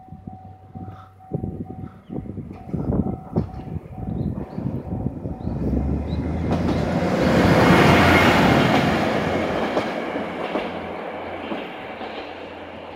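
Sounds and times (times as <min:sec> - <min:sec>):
railcar engine hum: 0:00.0 - 0:12.9
train wheels clacking on rails: 0:00.8 - 0:12.9.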